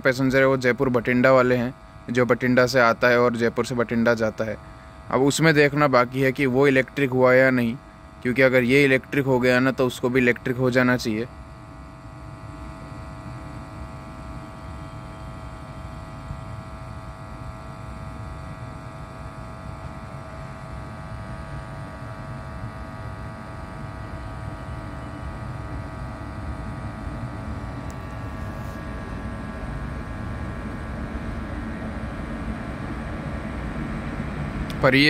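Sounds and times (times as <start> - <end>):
electric locomotive rumble and hum: 0.0 - 35.0.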